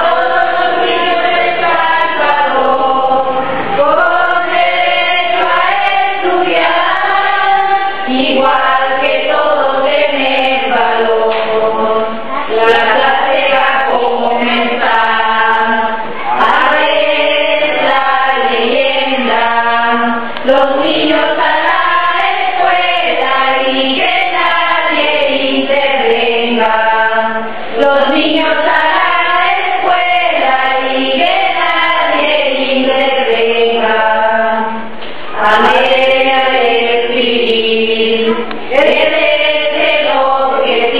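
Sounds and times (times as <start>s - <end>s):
choir singing chant-like: 0.0s - 40.9s.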